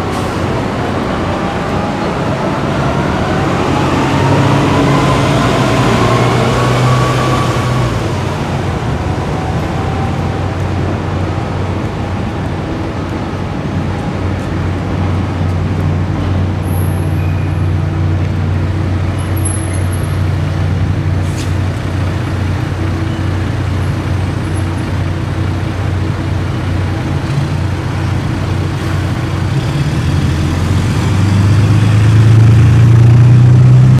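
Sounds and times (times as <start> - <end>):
road traffic engine hum: 0.0 - 34.0.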